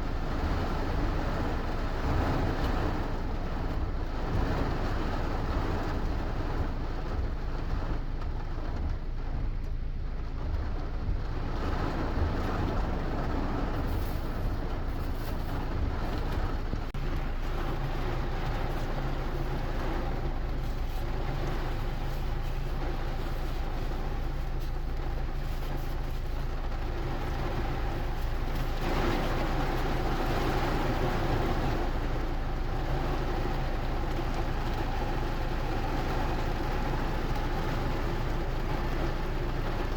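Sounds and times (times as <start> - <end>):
low rumble: 0.0 - 39.9
steady rain: 0.0 - 39.9.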